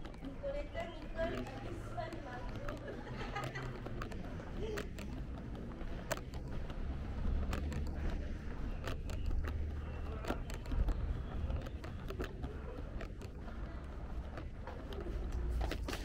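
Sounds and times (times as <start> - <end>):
footsteps on cobblestones: 0.0 - 16.0
steady low rumble: 0.0 - 16.0.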